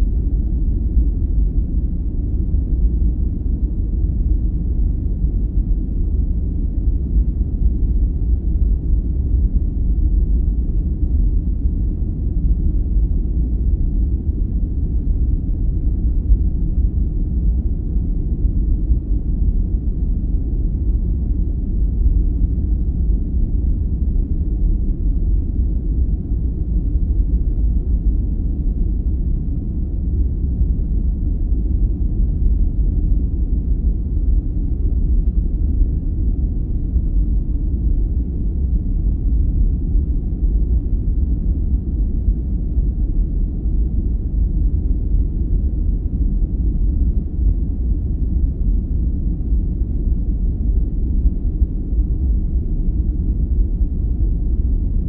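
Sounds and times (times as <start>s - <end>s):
deep muffled rumbling noise: 0.0s - 55.0s.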